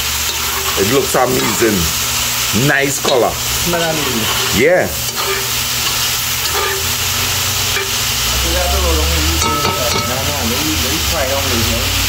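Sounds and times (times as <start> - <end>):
pork sizzling in a pot: 0.0 - 12.0.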